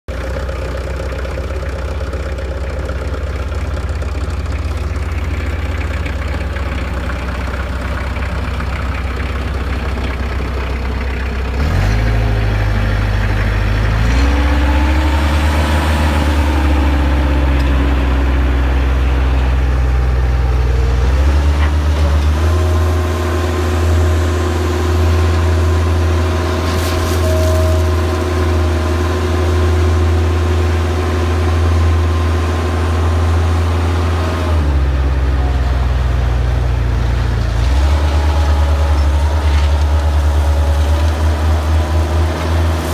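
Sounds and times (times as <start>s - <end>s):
diesel engine running: 0.1s - 42.9s
high engine whine: 0.2s - 42.9s.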